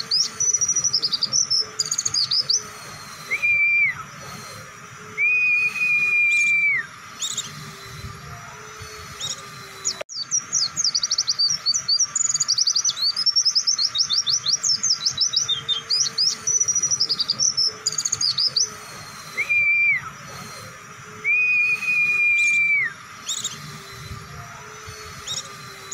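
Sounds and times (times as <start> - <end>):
bird singing fast high chirps: 0.0 - 25.9
faint steady hum: 0.0 - 25.9
long flat high whistles: 0.0 - 25.9.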